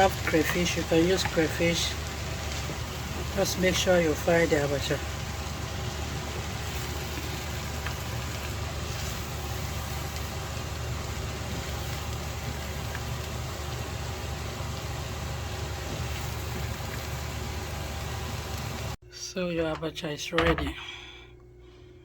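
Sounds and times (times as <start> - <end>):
food sizzling in oil: 0.0 - 19.0
low motor hum: 0.0 - 19.0.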